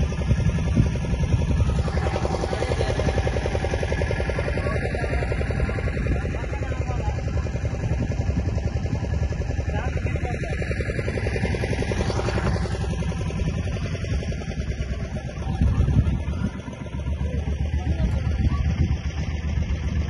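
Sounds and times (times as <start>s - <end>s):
engine running with even throb: 0.0s - 20.0s.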